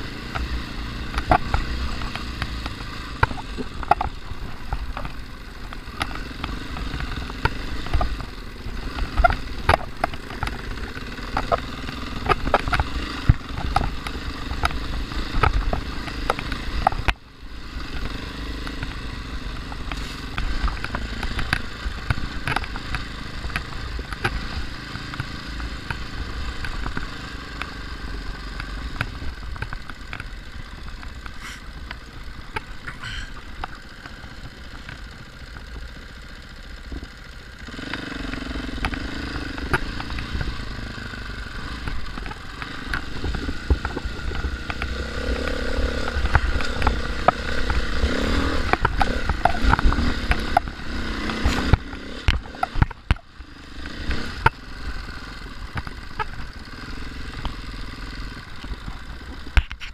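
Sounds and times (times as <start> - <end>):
dirt bike engine revving: 0.0 - 59.6.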